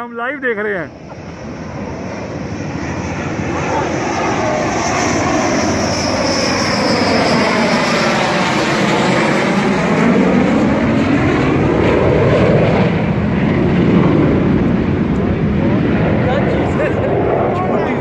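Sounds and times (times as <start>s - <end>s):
jet flying overhead: 0.0s - 18.0s.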